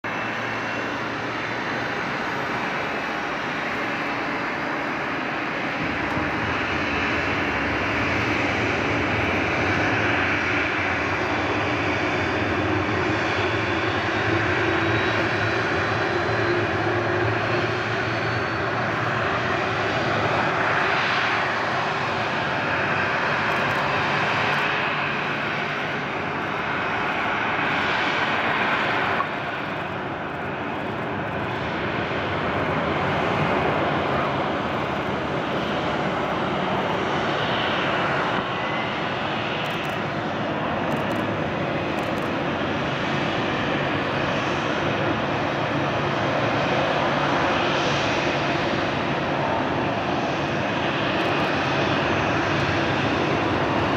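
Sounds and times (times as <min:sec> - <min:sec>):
jet engine whine: 0:00.0 - 0:53.9
plane landing and rolling out: 0:00.0 - 0:53.9.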